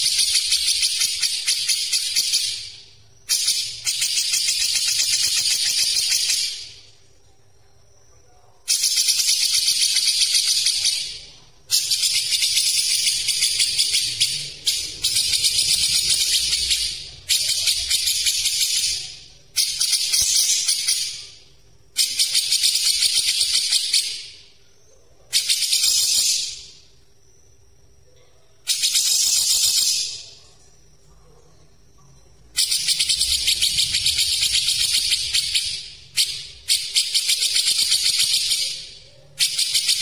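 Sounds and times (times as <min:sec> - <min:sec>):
bird chattering song: 0:00.0 - 0:06.9, 0:08.6 - 0:26.9, 0:28.6 - 0:30.6, 0:32.5 - 0:40.0.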